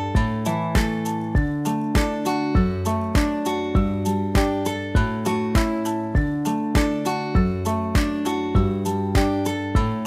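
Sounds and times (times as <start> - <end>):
guitar tune with steady beat: 0.0 - 10.0.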